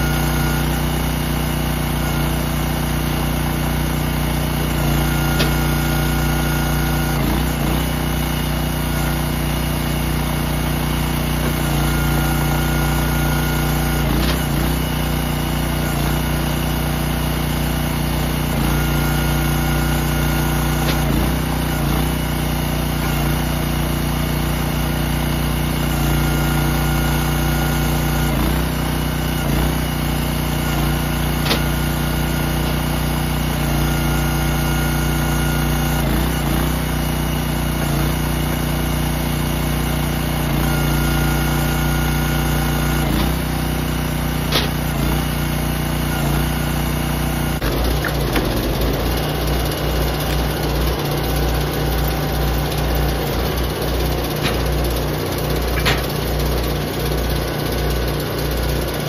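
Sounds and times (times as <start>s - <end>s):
log splitter engine running: 0.0s - 59.0s.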